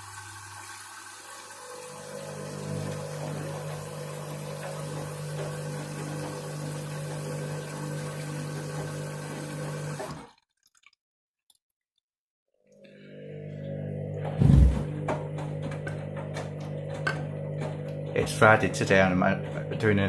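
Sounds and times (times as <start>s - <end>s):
washing machine hum: 0.0s - 10.3s, 12.7s - 20.0s
water rushing in washing machine: 0.0s - 10.7s, 12.8s - 20.0s.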